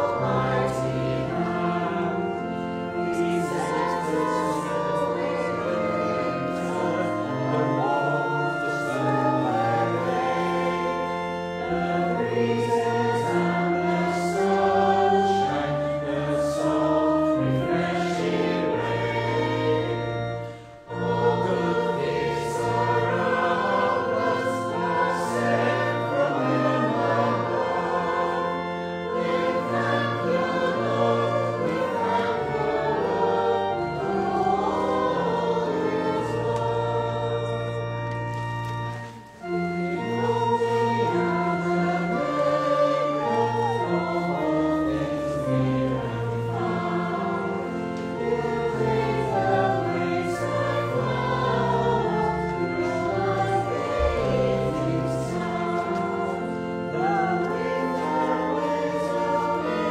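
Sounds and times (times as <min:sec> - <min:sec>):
choir singing a hymn: 0:00.0 - 0:59.9
organ accompaniment: 0:00.0 - 0:59.9.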